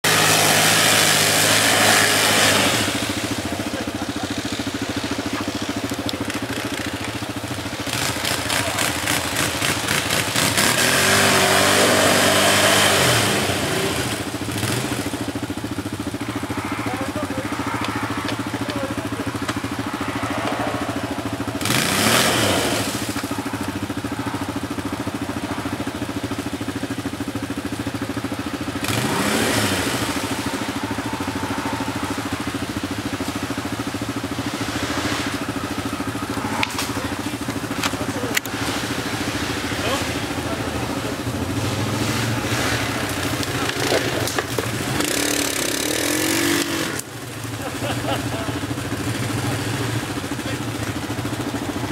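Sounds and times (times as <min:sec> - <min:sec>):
atv engine revving: 0:00.0 - 0:51.9
wheels churning through mud: 0:00.0 - 0:51.9.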